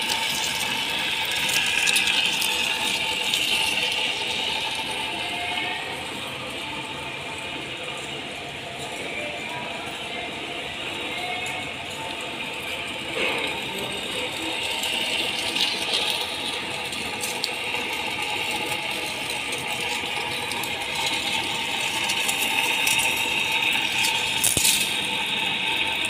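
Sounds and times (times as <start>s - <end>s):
metal lathe cutting steel: 0.0s - 26.0s.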